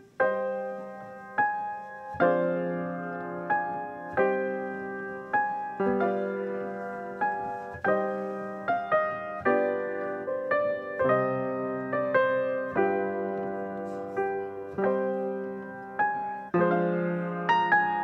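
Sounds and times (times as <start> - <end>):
slow solo piano piece: 0.0 - 18.0.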